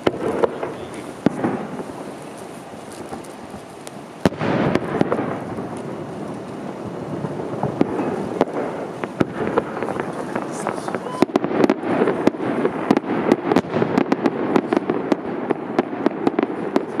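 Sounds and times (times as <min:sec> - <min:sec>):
faint firework pops: 0:00.0 - 0:06.6, 0:07.2 - 0:17.0
rolling rumble: 0:00.0 - 0:16.2
firework bang: 0:00.0 - 0:17.0.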